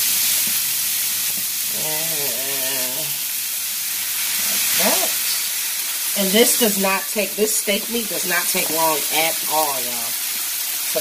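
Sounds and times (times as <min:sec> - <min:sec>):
meat and vegetables sizzling on griddle: 0:00.0 - 0:11.0.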